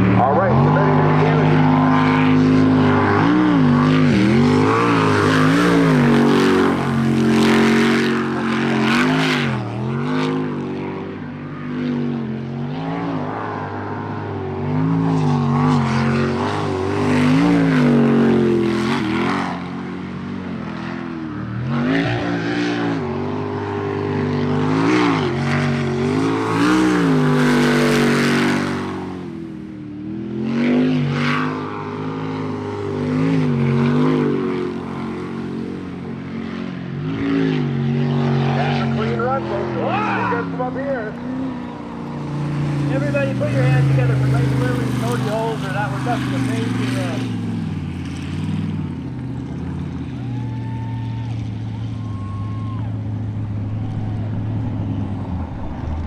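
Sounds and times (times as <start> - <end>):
jet boat engine racing: 0.0 - 56.0.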